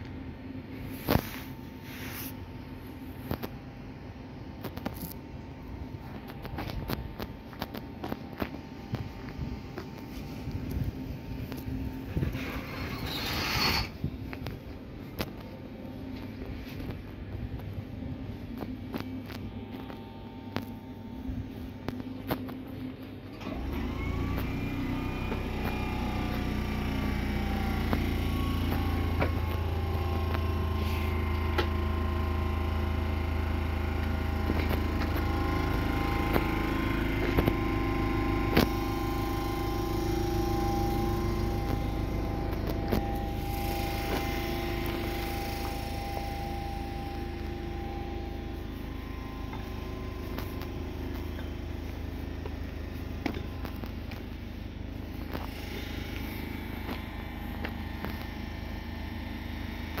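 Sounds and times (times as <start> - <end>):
train equipment humming: 0.0 - 60.0.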